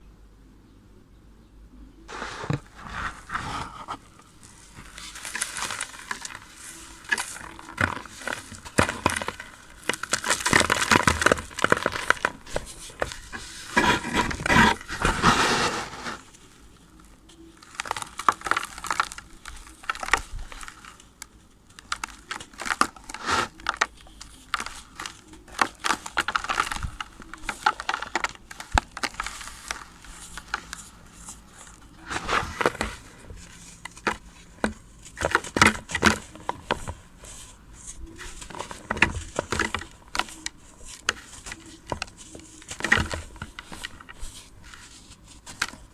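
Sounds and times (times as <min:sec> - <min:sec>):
play sand crumbling and crunching: 0:02.0 - 0:45.9.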